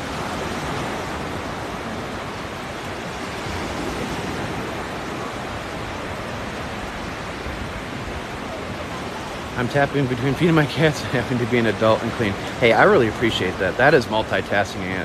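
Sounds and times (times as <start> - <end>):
surf washing up beach: 0.0 - 15.0
wind buffeting microphone: 0.0 - 15.0.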